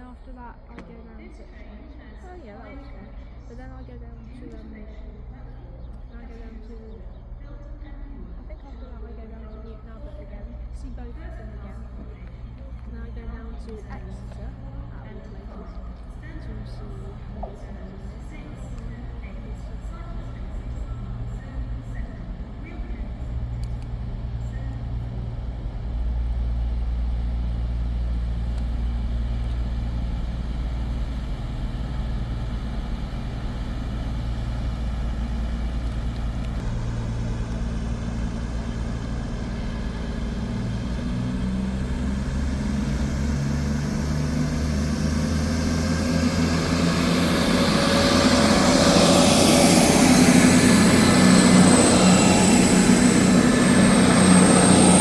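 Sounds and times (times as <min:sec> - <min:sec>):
approaching train rumble and hiss: 0:00.0 - 0:55.0
railway engine humming: 0:00.0 - 0:55.0.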